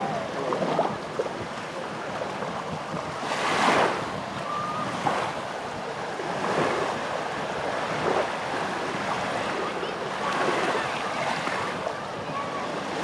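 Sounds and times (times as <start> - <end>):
waves washing on beach: 0.0 - 13.0.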